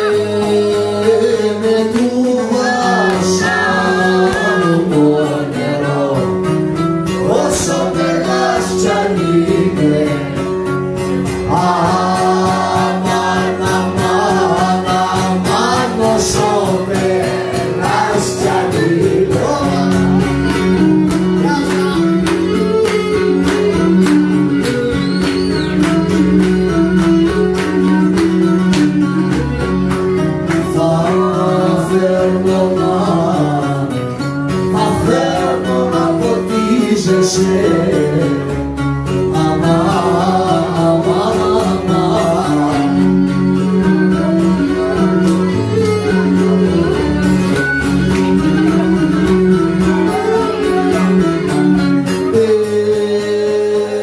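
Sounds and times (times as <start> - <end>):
man singing: 0.0 - 10.6, 11.2 - 29.6, 30.5 - 54.0
strummed lute: 0.0 - 54.0.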